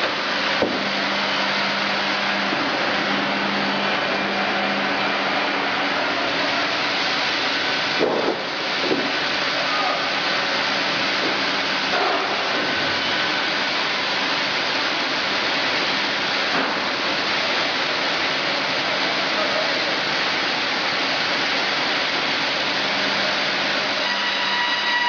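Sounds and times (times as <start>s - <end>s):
band sawmill rushing noise: 0.0s - 25.0s.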